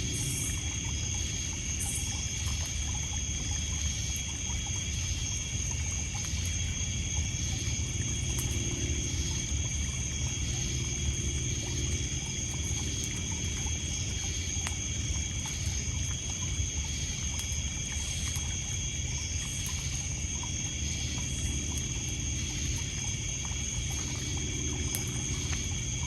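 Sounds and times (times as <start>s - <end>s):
crickets and insects chirping: 0.0s - 26.0s.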